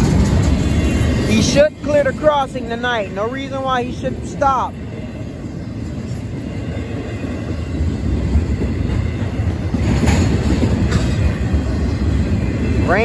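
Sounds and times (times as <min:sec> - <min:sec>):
sharp train rattles: 0:00.0 - 0:13.0
train wheels rumbling on rails: 0:00.0 - 0:13.0.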